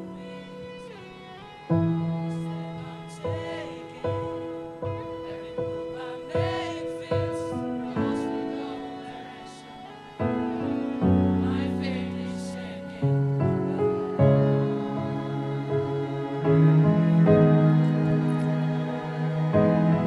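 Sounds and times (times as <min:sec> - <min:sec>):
instrumental accompaniment: 0:00.0 - 0:20.0
mixed choir singing: 0:00.0 - 0:20.0.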